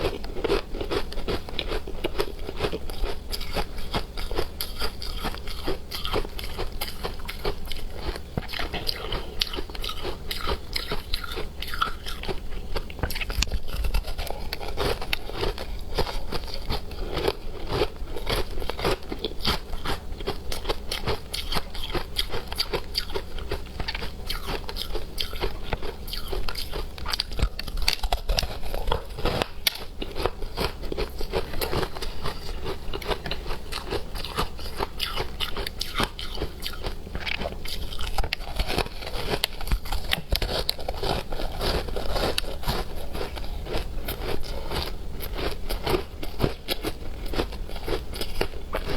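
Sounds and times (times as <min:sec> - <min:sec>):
person crunching frozen ice: 0:00.0 - 0:25.5, 0:26.1 - 0:48.9.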